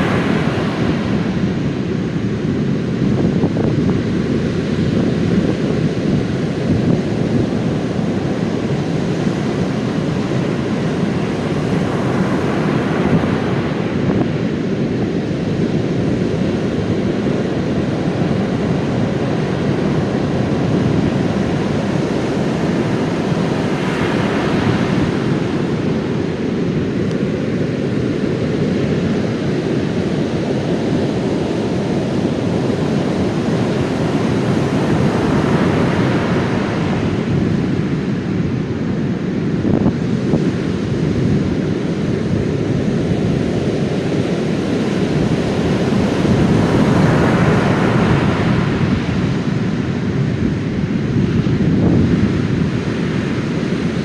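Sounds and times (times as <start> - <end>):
heavy surf on sand beach: 0.0 - 54.0
wave crashing: 0.0 - 54.0
wind buffeting microphone: 0.0 - 54.0.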